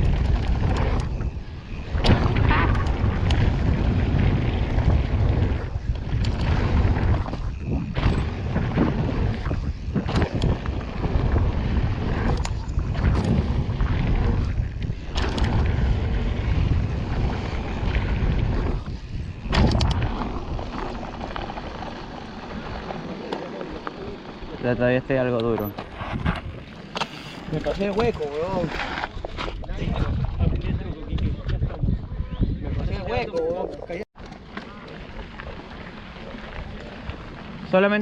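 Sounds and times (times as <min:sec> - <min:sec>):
bike rattling over rough ground: 0:00.0 - 0:38.0
wind rumble on microphone: 0:00.0 - 0:38.0.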